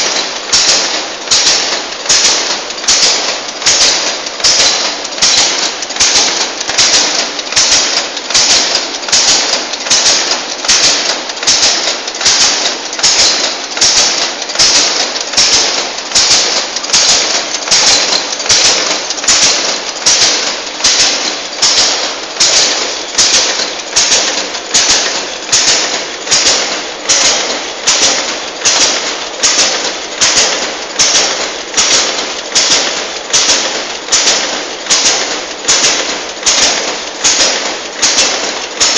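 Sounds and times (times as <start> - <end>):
packaging machine strokes: 0.0 - 38.9.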